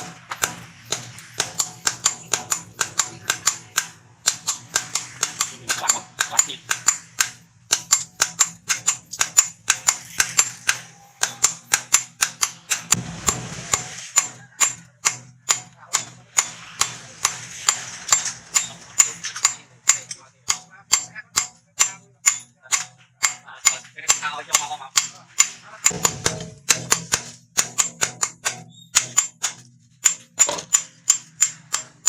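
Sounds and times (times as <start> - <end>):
hammer striking metal on anvil: 0.0 - 32.0.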